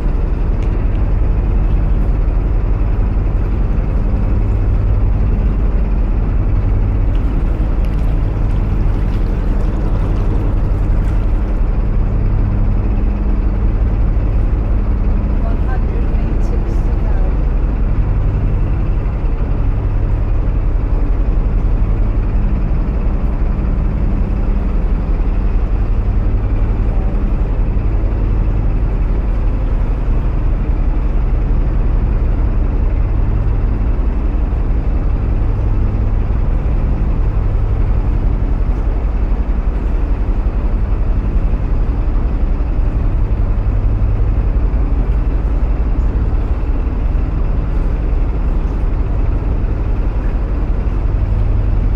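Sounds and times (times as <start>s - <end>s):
boat diesel engine thudding: 0.0s - 51.9s.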